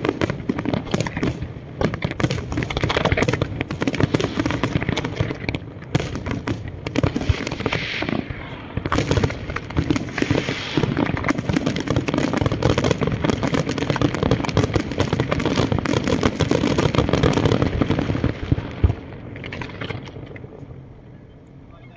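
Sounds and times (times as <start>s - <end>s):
fireworks bangs and crackling: 0.0s - 20.9s.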